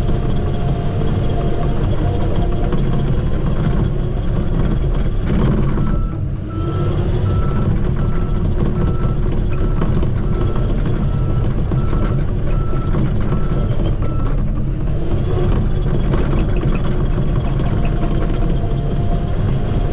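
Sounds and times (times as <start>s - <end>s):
bulldozer diesel engine: 0.0s - 19.9s.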